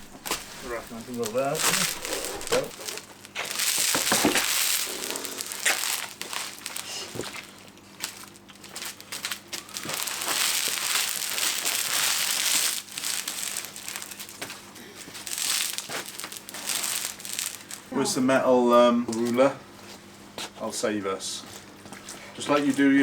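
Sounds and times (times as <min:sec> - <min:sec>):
roofing felt crinkling: 0:00.0 - 0:23.0.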